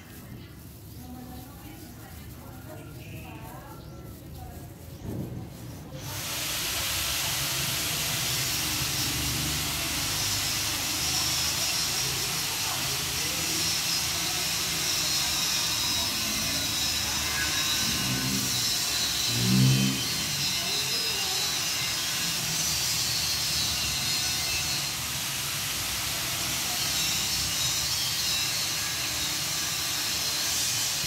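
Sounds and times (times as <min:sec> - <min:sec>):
steady hiss: 0:05.9 - 0:31.0.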